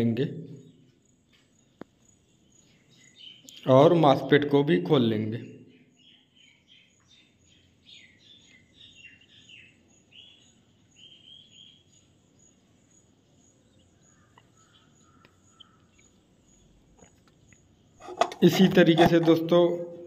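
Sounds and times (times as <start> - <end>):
bird chirps: 0.0 - 4.4, 5.3 - 20.0.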